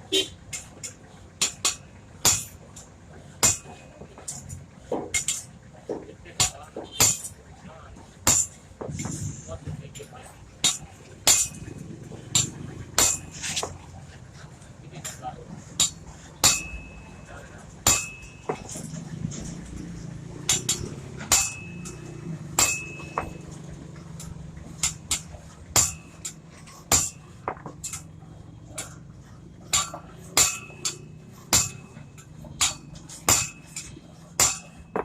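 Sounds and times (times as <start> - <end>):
hammer striking metal: 0.5 - 7.4, 8.2 - 9.2, 9.9 - 13.9, 15.0 - 35.0.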